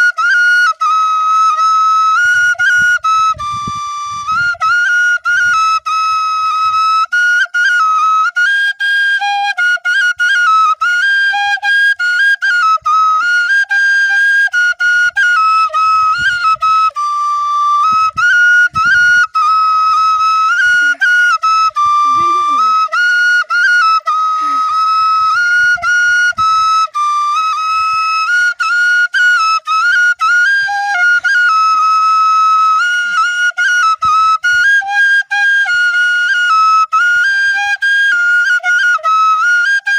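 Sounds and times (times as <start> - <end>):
bamboo flute folk tune: 0.0 - 39.9.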